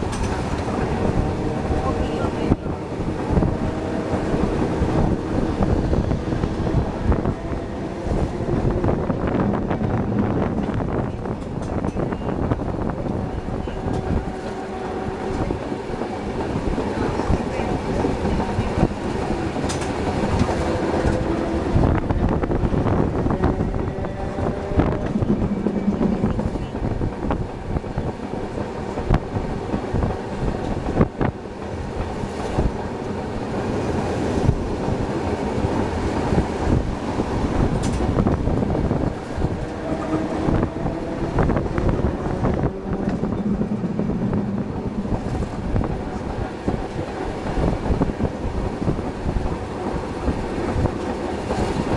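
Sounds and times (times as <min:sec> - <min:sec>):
streetcar wheels rumbling on rails: 0:00.0 - 0:51.9.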